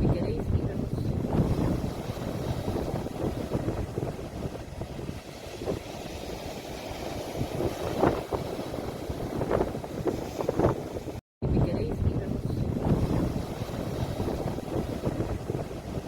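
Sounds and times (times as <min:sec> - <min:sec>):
wind buffeting microphone: 0:00.0 - 0:16.0
sea waves washing onto shore: 0:00.8 - 0:11.2, 0:12.6 - 0:16.0.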